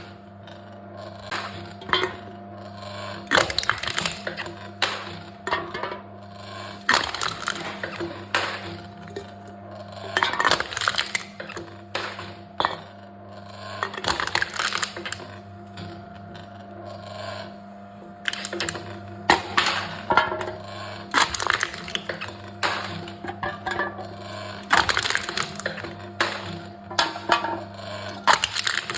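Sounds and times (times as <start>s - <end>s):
low machine hum: 0.0s - 28.9s
machine crushing cans: 1.1s - 12.8s, 13.4s - 16.1s, 18.1s - 28.9s.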